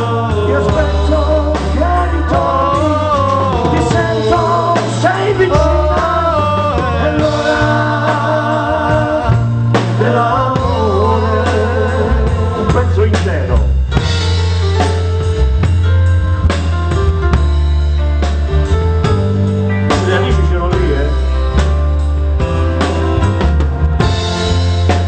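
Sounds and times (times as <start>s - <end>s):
live pop band playing: 0.0s - 25.0s.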